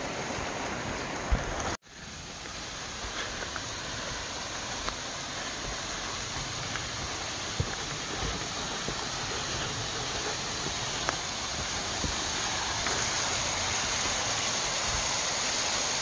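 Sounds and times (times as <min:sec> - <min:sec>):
small waterfall splashing: 0:00.0 - 0:16.0.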